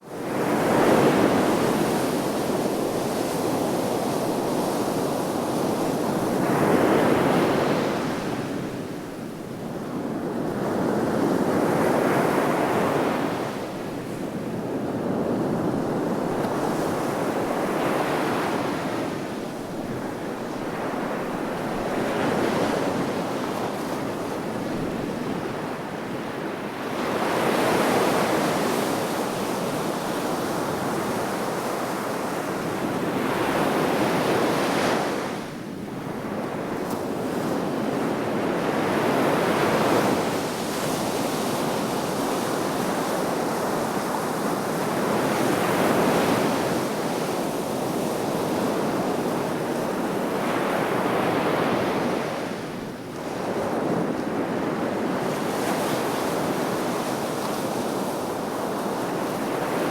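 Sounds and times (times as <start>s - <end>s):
sea waves washing ashore: 0.1s - 59.9s.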